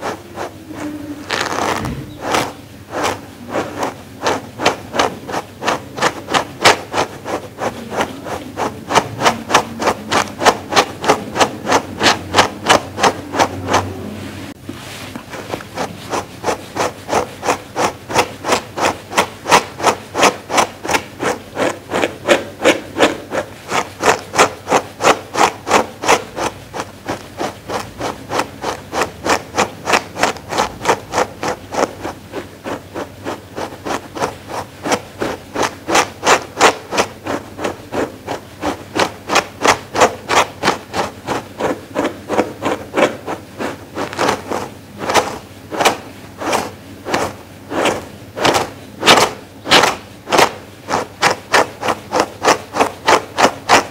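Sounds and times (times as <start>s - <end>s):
brush stroking over fur: 0.0s - 53.9s.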